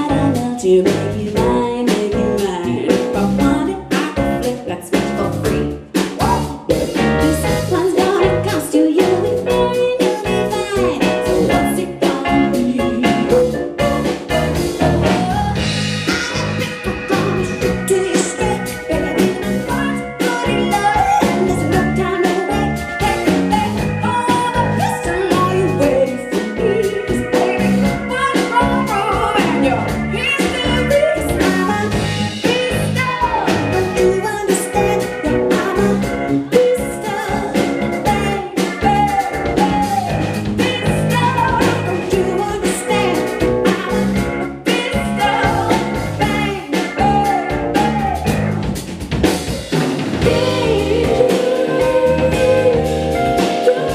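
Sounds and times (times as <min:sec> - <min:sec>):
live jazz-pop band: 0:00.0 - 0:53.9.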